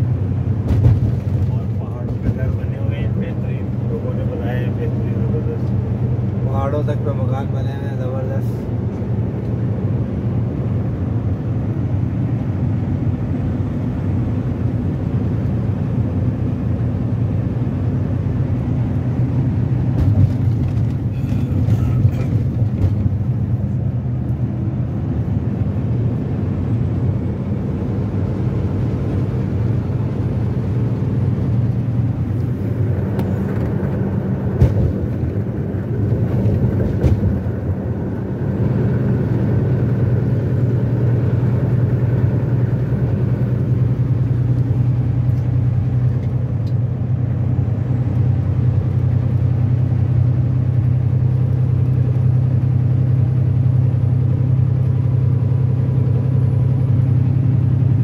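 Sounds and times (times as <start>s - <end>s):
road noise: 0.0s - 58.0s
truck engine hum: 0.0s - 58.0s.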